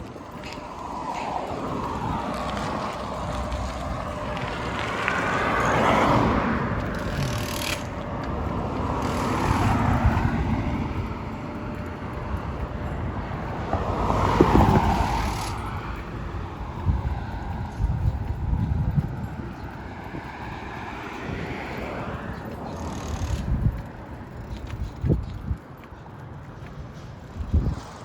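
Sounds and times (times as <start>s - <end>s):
vehicles passing: 0.0s - 28.0s
wind rumble on microphone: 0.0s - 28.0s.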